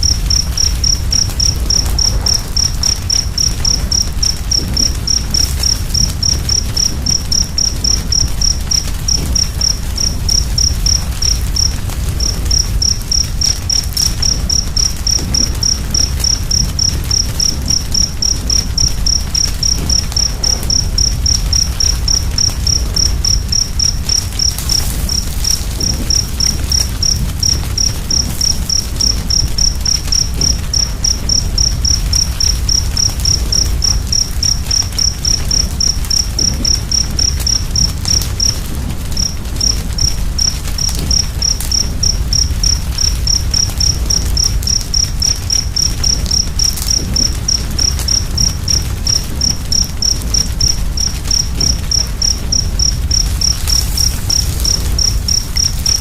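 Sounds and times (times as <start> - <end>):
wood fire rumbling and crackling: 0.0 - 56.0.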